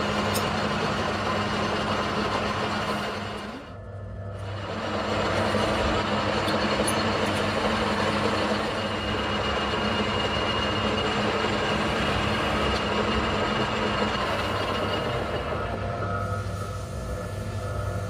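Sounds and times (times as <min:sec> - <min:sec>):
metal lathe cutting steel: 0:00.0 - 0:03.8, 0:04.4 - 0:18.0
high tool whine: 0:00.0 - 0:18.0.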